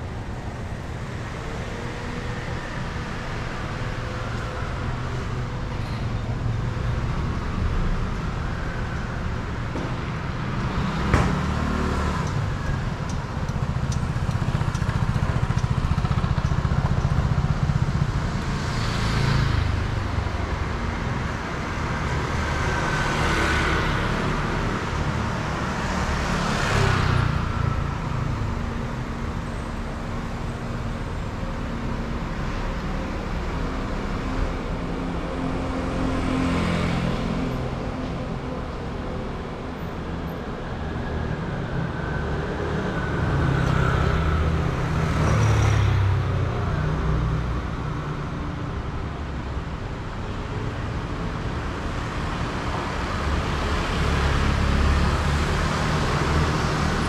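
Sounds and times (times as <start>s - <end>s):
traffic engine rumble: 0.0s - 57.0s
vehicles passing close by: 0.0s - 57.0s.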